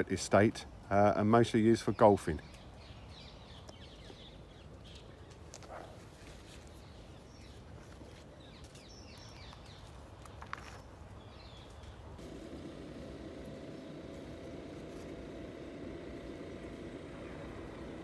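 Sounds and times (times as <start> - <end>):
small birds chirping: 0.7 - 18.0.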